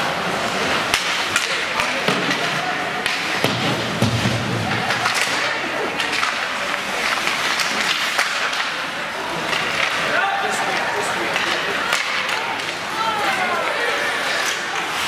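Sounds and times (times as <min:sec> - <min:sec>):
skates on ice: 0:00.0 - 0:15.0
hockey sticks clacking on puck: 0:00.4 - 0:15.0.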